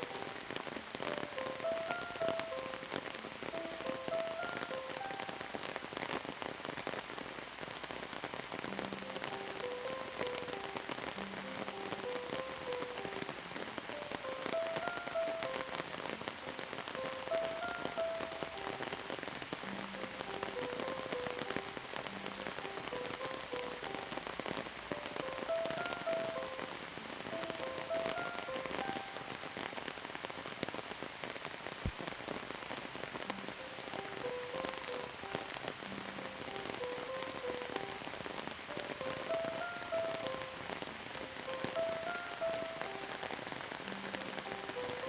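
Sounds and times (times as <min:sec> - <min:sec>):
slow melody of sustained notes: 0:00.0 - 0:06.4, 0:08.2 - 0:30.0, 0:33.1 - 0:45.0
rain pattering: 0:00.0 - 0:45.0.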